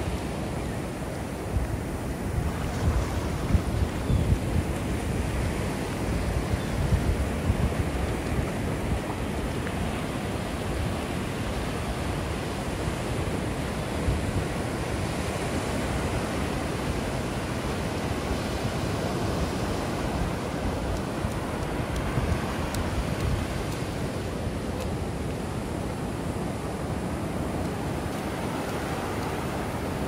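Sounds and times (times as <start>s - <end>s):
ocean waves breaking: 0.0s - 30.0s
wind rumbling on microphone: 0.0s - 30.0s.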